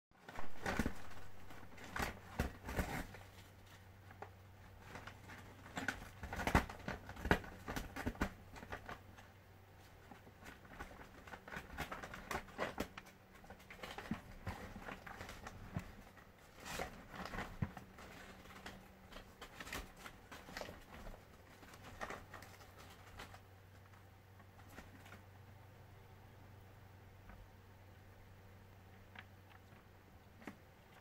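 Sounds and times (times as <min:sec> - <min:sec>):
faint low hum: 0:00.2 - 0:31.0.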